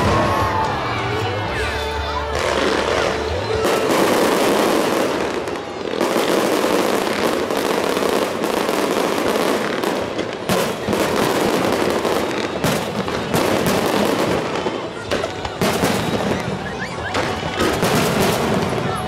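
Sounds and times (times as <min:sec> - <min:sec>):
fireworks crackling: 0:00.0 - 0:19.0
fireworks bangs: 0:02.3 - 0:19.0.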